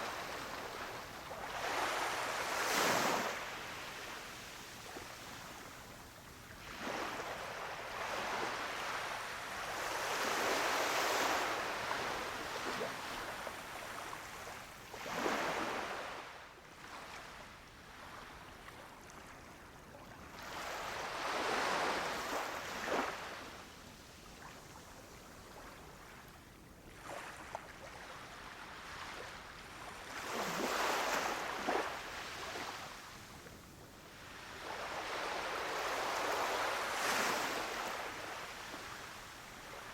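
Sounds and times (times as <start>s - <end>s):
sea waves breaking on shore: 0.0s - 5.9s, 6.6s - 17.4s, 20.3s - 23.6s, 27.0s - 33.4s, 34.1s - 39.9s.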